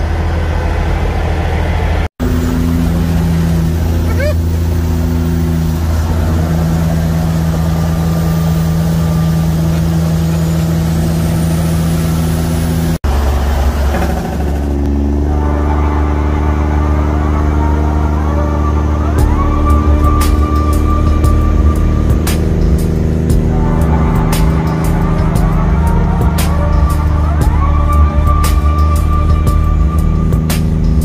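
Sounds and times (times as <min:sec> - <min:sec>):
truck diesel engine droning: 0:00.0 - 0:31.0.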